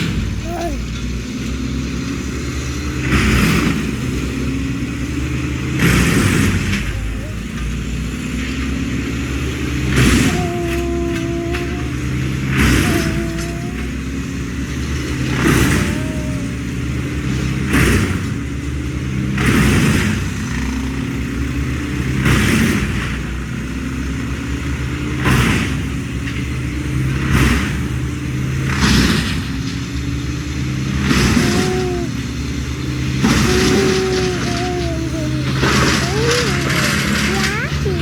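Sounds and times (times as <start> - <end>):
loud noisy engine surge: 0.0 - 38.0
motor engine running: 0.0 - 38.0.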